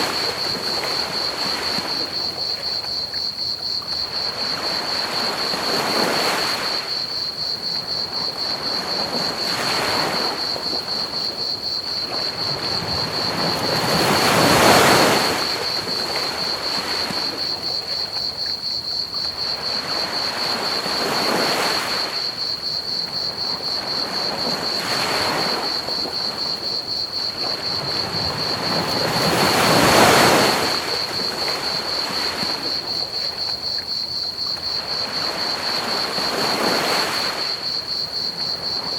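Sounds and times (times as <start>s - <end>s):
crickets chirping: 0.0s - 38.9s
ocean waves breaking: 4.1s - 17.8s, 19.4s - 22.4s, 23.3s - 33.5s, 34.6s - 38.9s.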